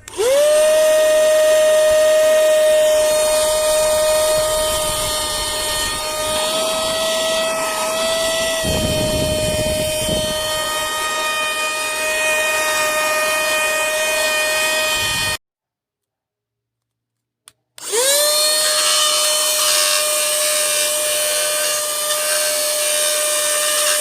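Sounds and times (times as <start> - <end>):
small vacuum motor whining: 0.0 - 15.4, 17.8 - 24.0.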